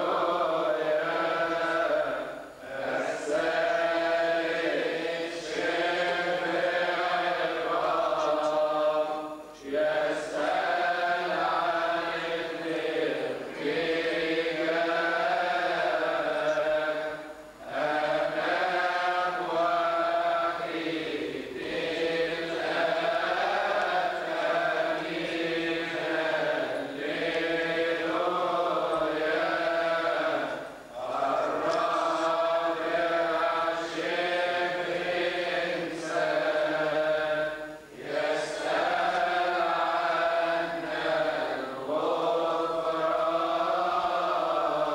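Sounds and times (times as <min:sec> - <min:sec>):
liturgical chanting: 0:00.0 - 0:44.9.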